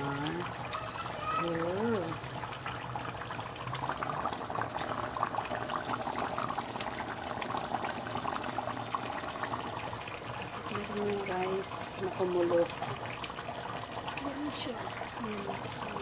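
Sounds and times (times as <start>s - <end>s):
pot of water boiling: 0.0s - 16.0s.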